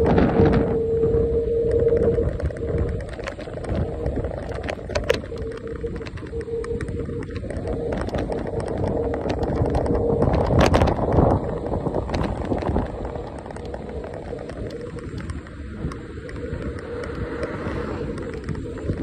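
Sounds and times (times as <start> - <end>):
electric scooter motor whine: 0.0 - 19.0
sharp clicks and rattles: 0.0 - 19.0
tyre rumble on road: 0.0 - 19.0
wind buffeting microphone: 0.0 - 19.0.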